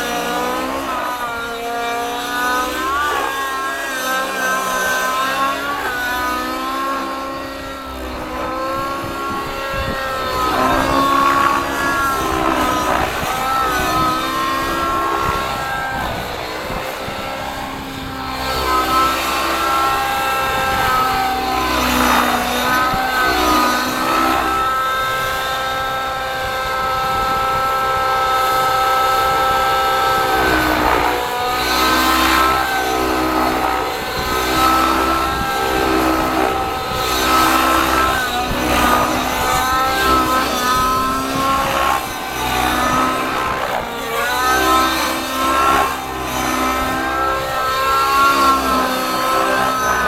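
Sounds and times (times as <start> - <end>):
model helicopter engine and rotor: 0.0 - 50.0.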